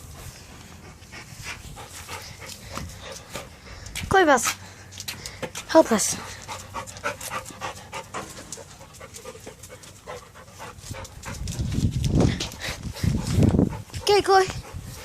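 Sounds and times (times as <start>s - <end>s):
dog panting: 0.0s - 4.0s, 5.4s - 15.0s.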